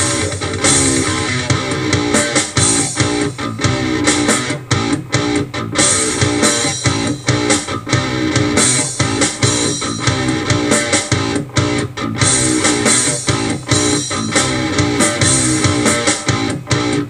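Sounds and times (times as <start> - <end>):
metal electric guitar riffs: 0.0 - 17.0.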